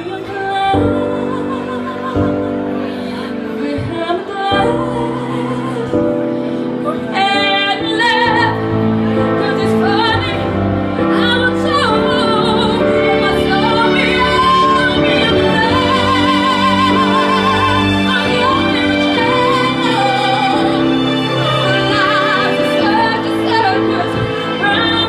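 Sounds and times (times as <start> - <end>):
backing music: 0.0 - 25.0
woman singing with vibrato: 0.0 - 25.0.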